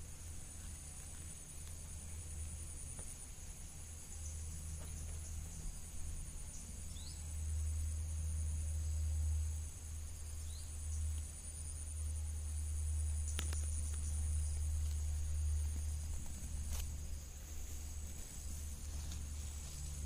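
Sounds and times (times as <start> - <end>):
insect chorus trilling: 0.0 - 20.0.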